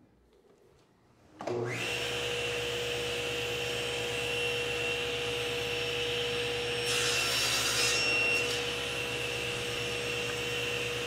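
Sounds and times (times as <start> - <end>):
table saw running: 1.5 - 11.0.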